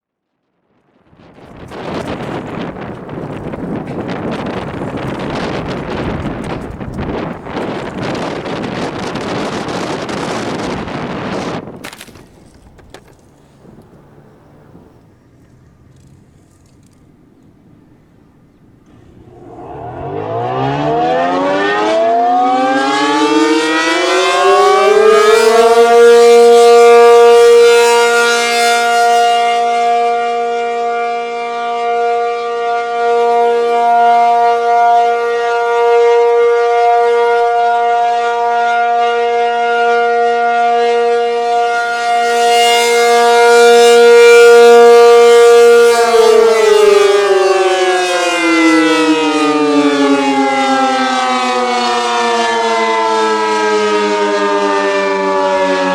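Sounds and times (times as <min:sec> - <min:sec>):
tornado siren wailing: 0:00.7 - 0:16.1, 0:18.8 - 0:55.9.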